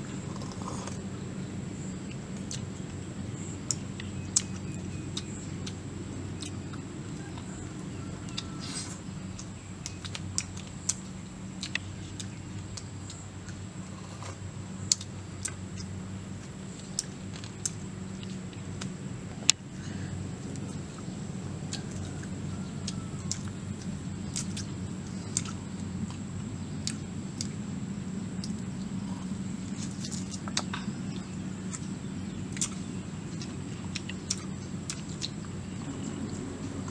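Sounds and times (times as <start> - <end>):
chewing and smacking: 0.0 - 36.9
low steady hum: 0.0 - 36.9
people eating with fingers: 0.0 - 36.9.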